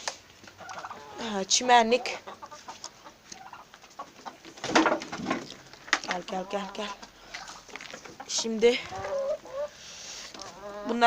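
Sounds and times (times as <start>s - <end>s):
chickens clucking softly: 0.5s - 1.3s, 1.9s - 4.6s, 5.4s - 11.0s.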